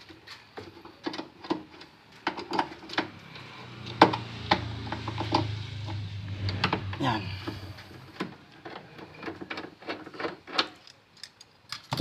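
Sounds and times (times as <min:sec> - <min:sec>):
screwdriver clicking and creaking: 0:01.0 - 0:12.0.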